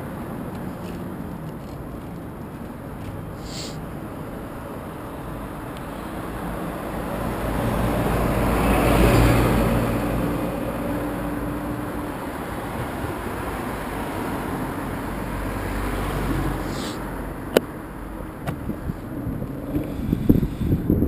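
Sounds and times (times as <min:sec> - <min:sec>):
bus driving past: 0:00.0 - 0:21.0
street traffic noise: 0:00.0 - 0:21.0.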